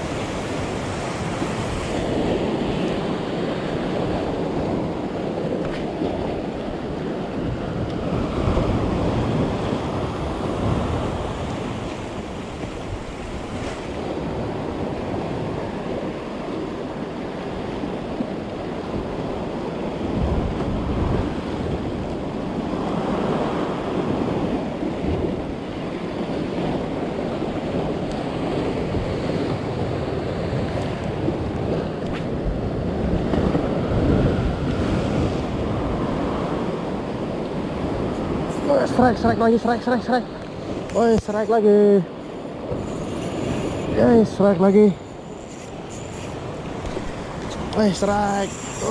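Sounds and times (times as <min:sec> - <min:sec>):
sea surf washing ashore: 0:00.0 - 0:48.9
wind rumbling on microphone: 0:00.0 - 0:48.9.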